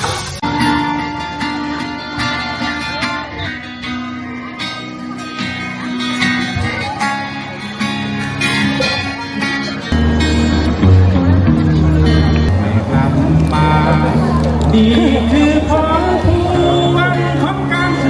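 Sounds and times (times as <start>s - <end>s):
plucked acoustic guitar music: 0.0s - 18.0s.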